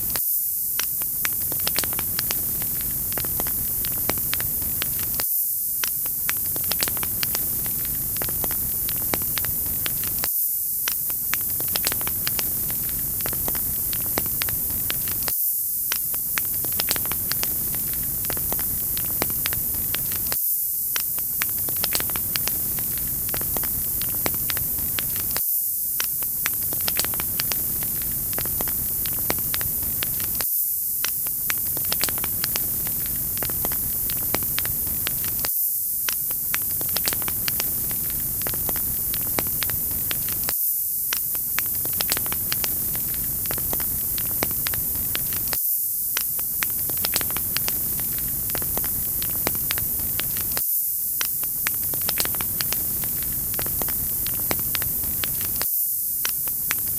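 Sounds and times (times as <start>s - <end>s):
wood fire crackling: 0.8s - 5.2s, 5.8s - 15.3s, 15.9s - 25.4s, 26.0s - 30.4s, 31.0s - 40.5s, 41.1s - 50.6s, 51.2s - 55.6s, 56.3s - 56.9s.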